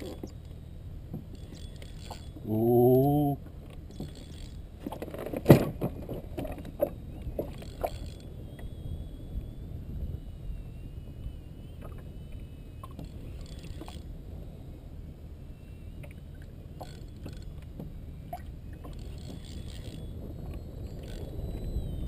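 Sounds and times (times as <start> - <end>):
faint wavering high tone: 0.0 - 4.5, 6.5 - 22.0.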